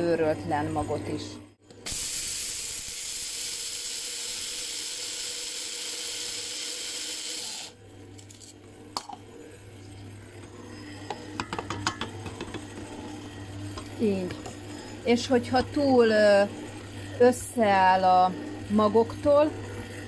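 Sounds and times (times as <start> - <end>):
electric coffee grinder grinding: 0.0 - 20.0
stand mixer humming: 1.7 - 20.0.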